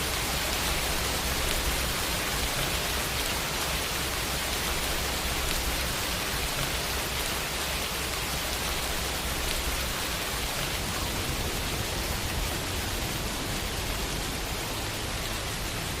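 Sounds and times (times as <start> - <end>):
rain falling on a window: 0.0 - 16.0.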